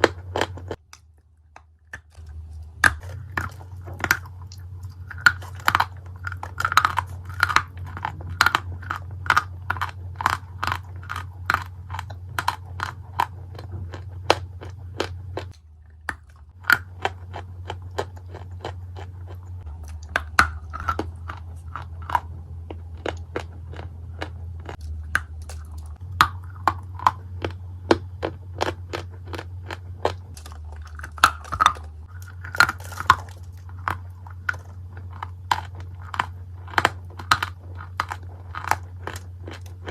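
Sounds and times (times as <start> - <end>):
clay being chewed crunching: 0.0 - 39.9
steady low hum: 0.0 - 39.9.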